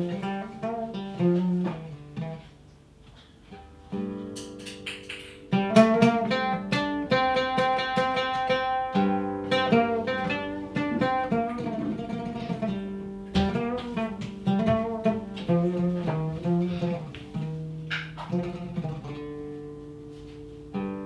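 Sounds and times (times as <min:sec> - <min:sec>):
oud plucked melody: 0:00.0 - 0:21.0.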